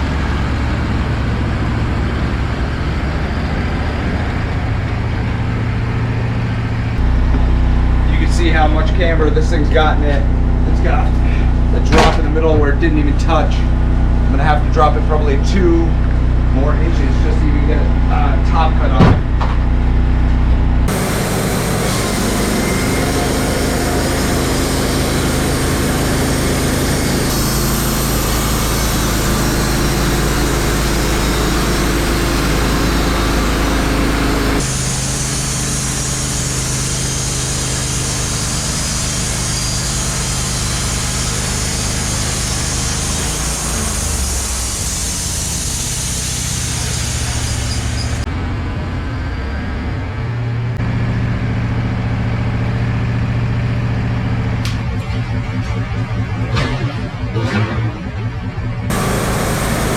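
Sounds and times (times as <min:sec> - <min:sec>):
band sawmill engine under load: 0:00.0 - 0:59.9.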